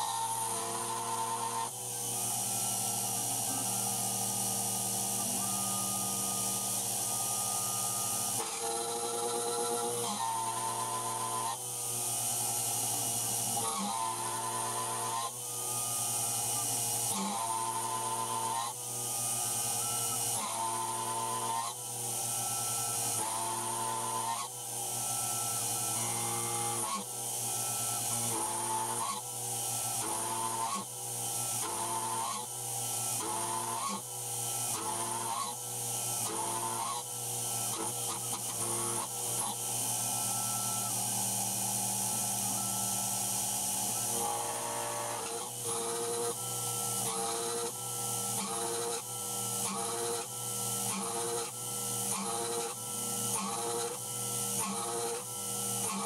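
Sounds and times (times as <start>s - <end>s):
motors whining: 0.0s - 29.2s, 34.6s - 56.0s
milling machine cutting hiss: 0.0s - 56.0s.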